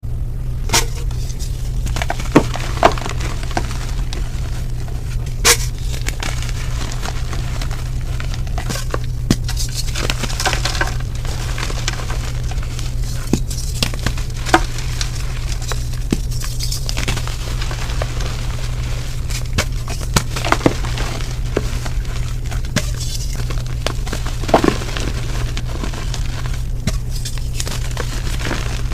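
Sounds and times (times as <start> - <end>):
steady low hum: 0.0 - 28.9
chalk crunching and snapping: 0.7 - 28.9.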